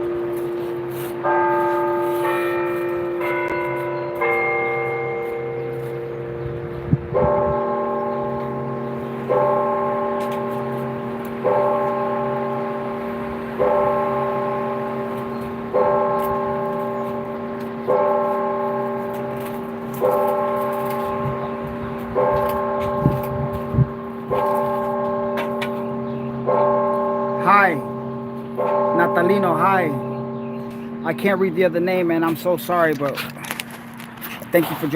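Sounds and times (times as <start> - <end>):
church bell tolling: 0.0 - 33.3.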